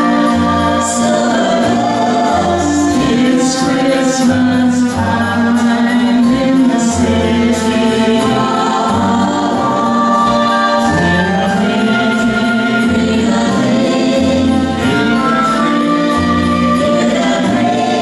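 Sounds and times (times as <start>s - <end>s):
bass line: 0.0s - 18.0s
instrumental accompaniment: 0.0s - 18.0s
two voices singing: 0.0s - 18.0s.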